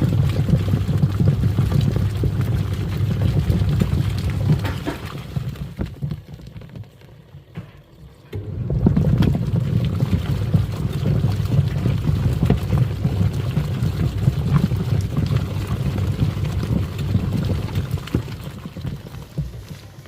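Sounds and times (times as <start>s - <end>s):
washing machine churning water: 0.0s - 20.0s.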